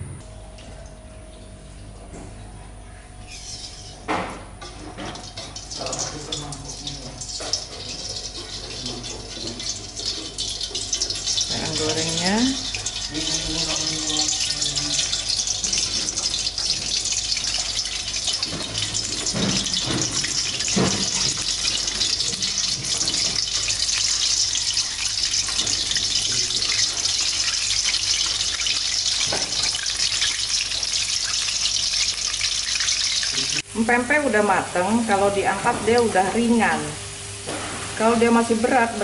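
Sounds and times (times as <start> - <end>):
food frying in hot oil: 3.3 - 39.0.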